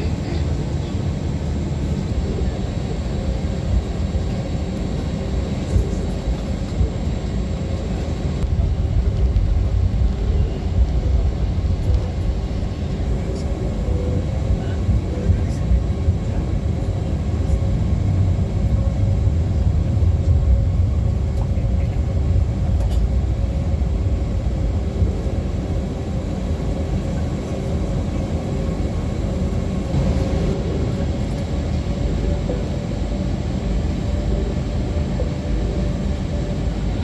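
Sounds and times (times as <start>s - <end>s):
faint steady whine: 0.0s - 37.0s
jet engines rumbling in cabin: 0.0s - 37.0s.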